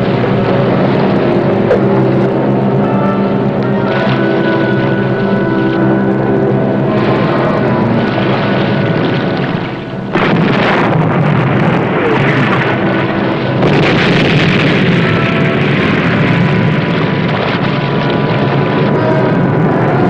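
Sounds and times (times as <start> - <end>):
explosions: 0.0 - 5.2, 6.8 - 20.0
sea roar: 0.0 - 20.0.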